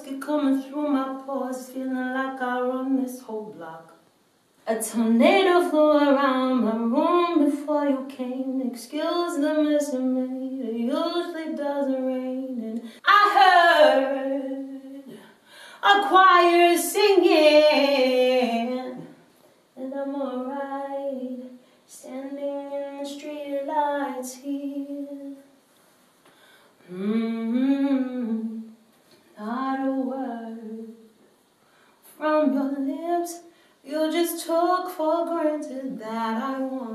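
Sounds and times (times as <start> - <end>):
woman singing a cappella: 0.0 - 25.5, 26.8 - 31.2, 32.0 - 36.9.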